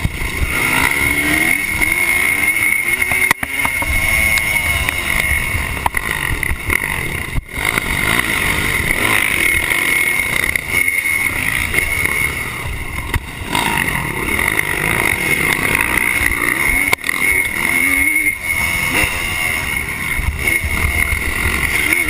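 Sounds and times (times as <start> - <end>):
motocross engine revving: 0.0 - 22.0.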